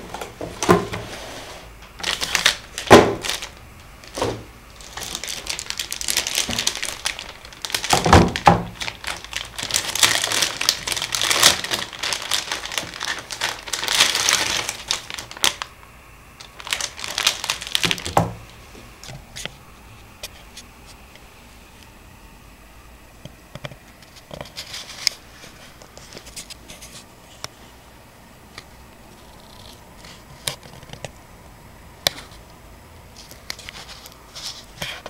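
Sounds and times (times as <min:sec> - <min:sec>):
crinkling and rustling handling: 0:00.0 - 0:21.9, 0:23.2 - 0:27.8, 0:28.5 - 0:31.3, 0:32.0 - 0:35.0.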